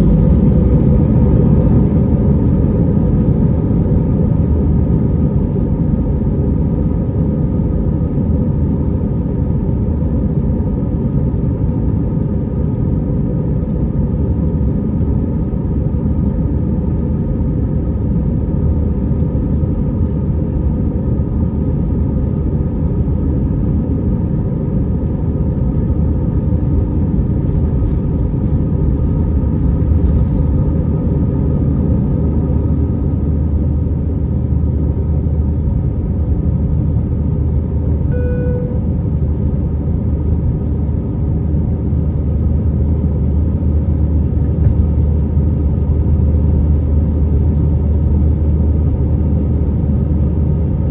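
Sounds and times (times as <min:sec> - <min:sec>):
faint constant hum: 0:00.0 - 0:50.9
low rumble of engines and airflow: 0:00.0 - 0:50.9.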